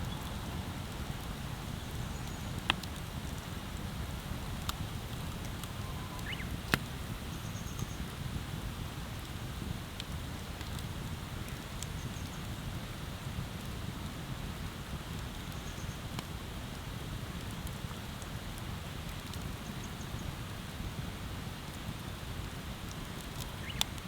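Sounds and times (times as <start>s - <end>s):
bonfire crackling pops: 0.0s - 24.0s.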